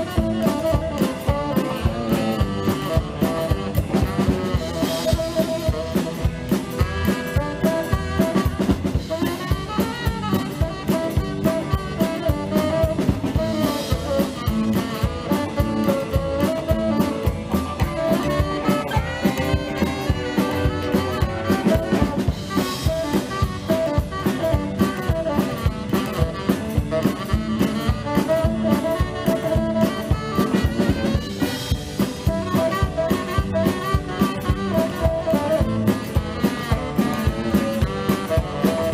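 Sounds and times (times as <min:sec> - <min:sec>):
drum kit steady beat: 0:00.0 - 0:38.9
electric guitars: 0:00.0 - 0:38.9
saxophone: 0:00.0 - 0:38.9
upright bass: 0:00.0 - 0:38.9.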